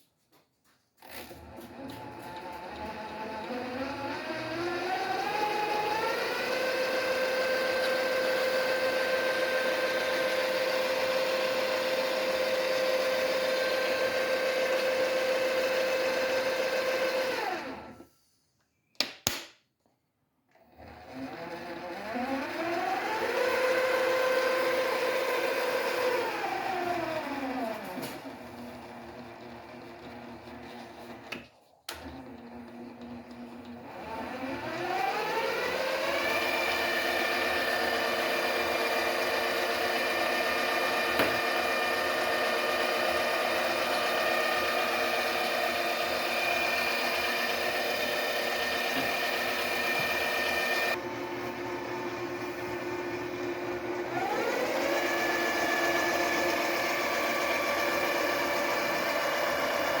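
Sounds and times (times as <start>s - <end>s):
lathe motor whining: 1.3s - 18.0s, 20.8s - 60.0s.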